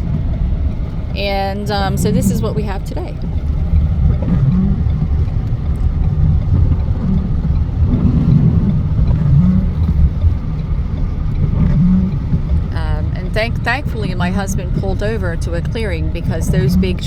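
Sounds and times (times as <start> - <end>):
low rumble inside a car: 0.0 - 17.0.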